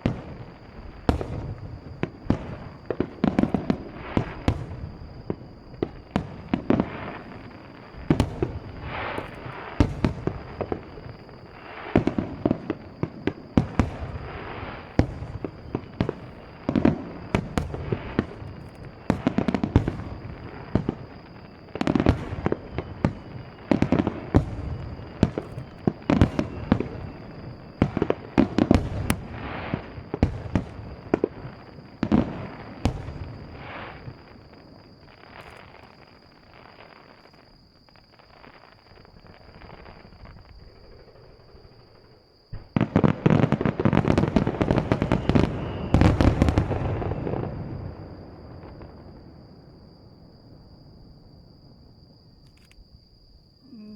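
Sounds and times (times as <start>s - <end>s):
fireworks crackle: 0.0s - 50.0s
distant fireworks shells bursting: 0.0s - 53.0s.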